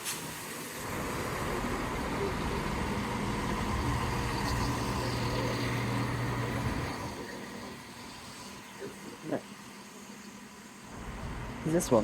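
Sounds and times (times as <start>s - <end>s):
wheel and rail noise: 0.0s - 12.0s
diesel train engine humming: 0.3s - 12.0s.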